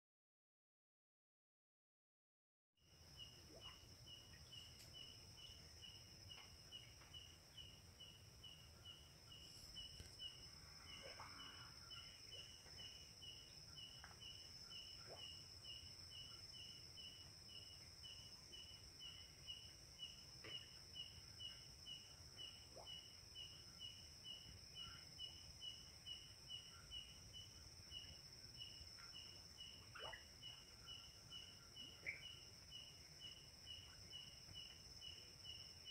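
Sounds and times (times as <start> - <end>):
cricket chirping: 2.8 - 35.9
faint short insect calls: 2.8 - 35.9.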